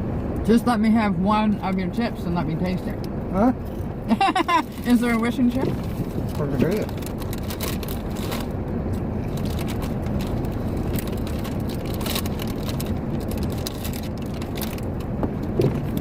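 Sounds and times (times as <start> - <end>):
truck idling: 0.0 - 16.0.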